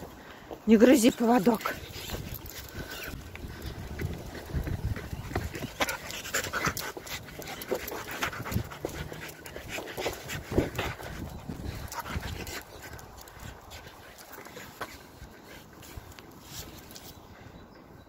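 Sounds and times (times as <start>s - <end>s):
dog panting: 1.4s - 16.1s.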